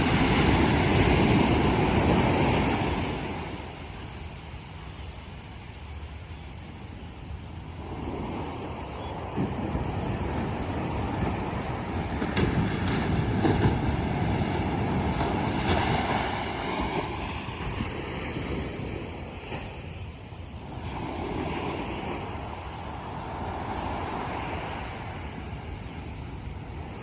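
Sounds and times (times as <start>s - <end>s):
ocean waves breaking on beach: 0.0s - 27.0s.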